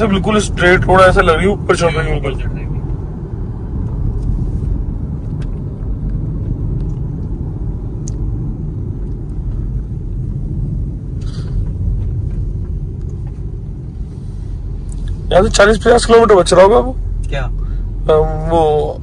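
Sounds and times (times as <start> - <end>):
engine and tyre rumble in car: 0.0 - 19.0.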